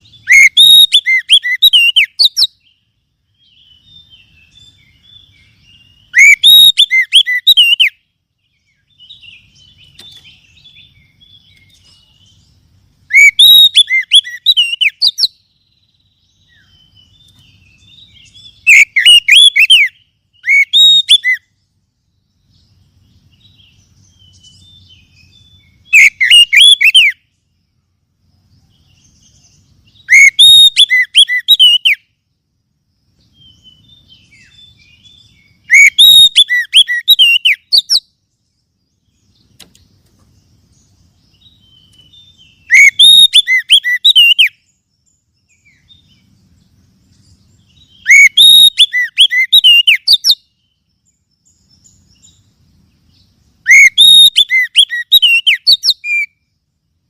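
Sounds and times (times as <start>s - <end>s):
bird singing loud strident phrases: 0.0s - 57.0s
faint bird twittering: 0.0s - 57.0s.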